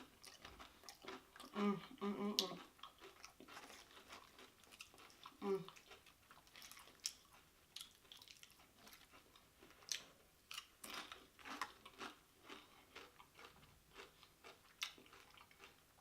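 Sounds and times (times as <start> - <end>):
person chewing crunchy chips: 0.0 - 16.0.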